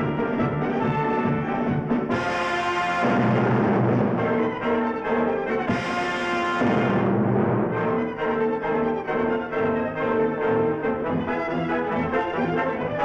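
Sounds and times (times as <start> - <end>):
orchestral cartoon music with brass: 0.0 - 13.0.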